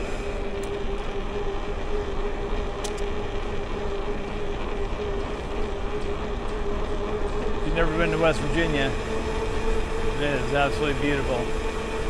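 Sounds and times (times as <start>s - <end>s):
constant hum: 0.0s - 12.0s
vehicle rumble and hiss: 0.0s - 12.0s.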